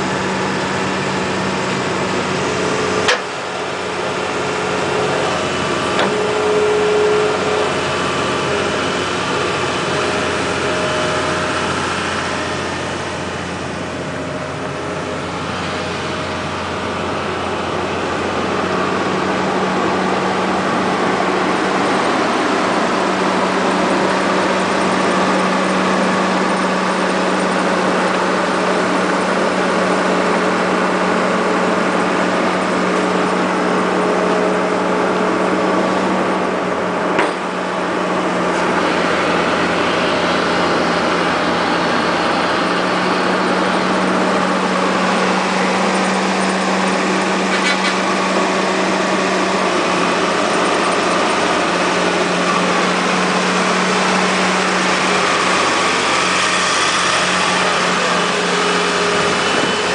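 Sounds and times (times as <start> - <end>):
excavator diesel engine drone: 0.0 - 59.9.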